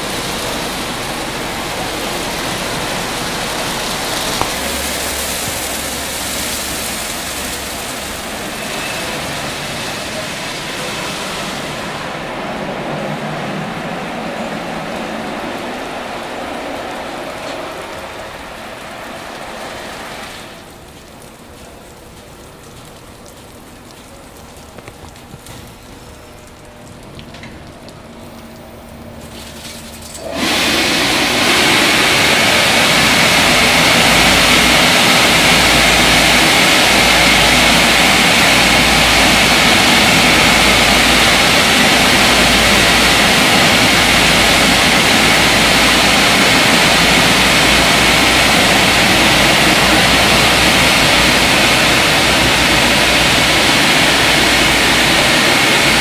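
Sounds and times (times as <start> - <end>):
dryer blowers rushing air: 0.0 - 21.0, 25.2 - 56.0
car wash machinery hum: 0.0 - 56.0.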